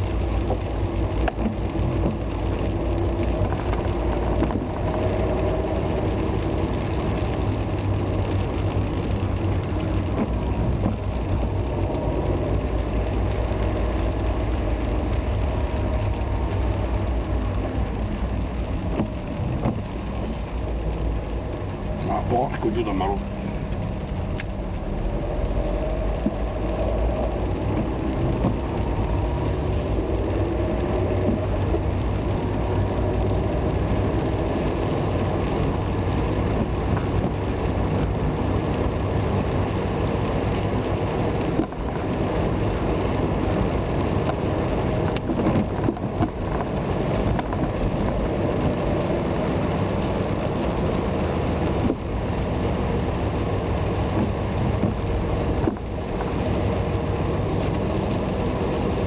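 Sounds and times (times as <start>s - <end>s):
car engine hum: 0.0s - 59.0s
tyres hissing on wet road: 0.0s - 59.0s.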